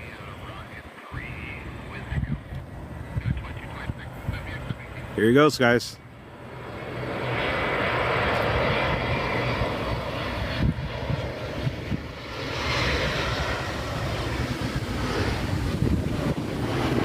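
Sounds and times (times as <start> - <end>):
jet engines landing: 0.0 - 17.0.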